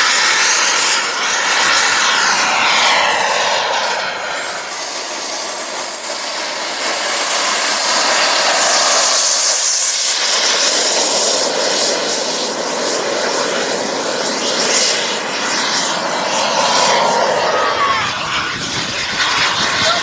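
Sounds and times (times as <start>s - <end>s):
model jet turbine roaring: 0.0s - 20.0s.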